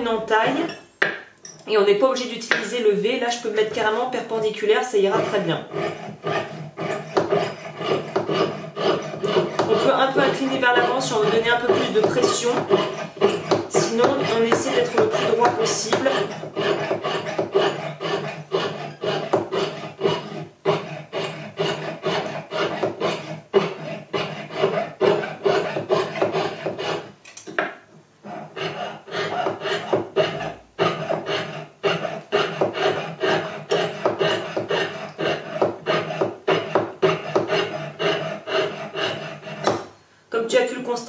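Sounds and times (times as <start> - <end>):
saw cutting metal: 5.0 - 27.1, 28.2 - 39.8.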